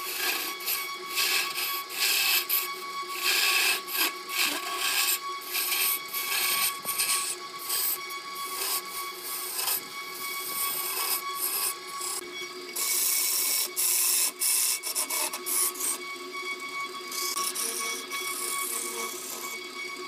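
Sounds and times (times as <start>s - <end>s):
lathe motor whine: 0.0s - 20.0s
lathe tool scraping wood: 0.0s - 20.0s.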